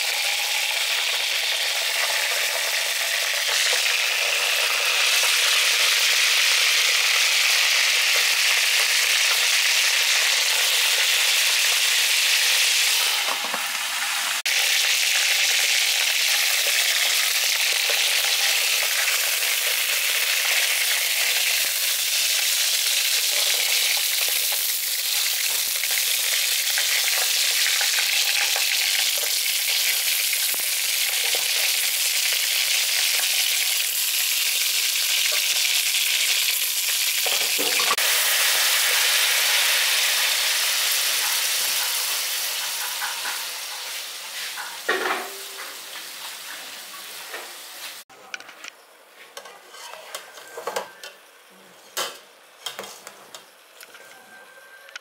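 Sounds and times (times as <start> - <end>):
chicken sizzling in hot fat: 0.0 - 48.1.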